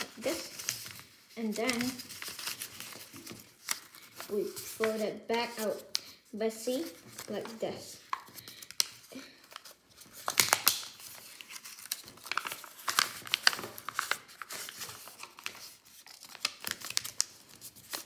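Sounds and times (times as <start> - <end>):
paper crinkling and rustling: 0.0 - 6.1, 6.7 - 18.0.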